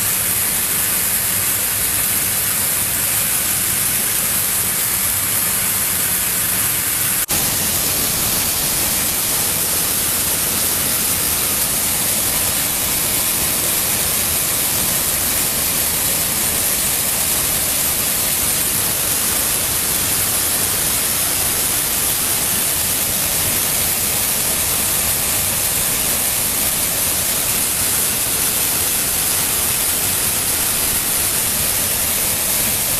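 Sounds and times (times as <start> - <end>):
sorting machine rushing hiss: 0.0 - 32.9.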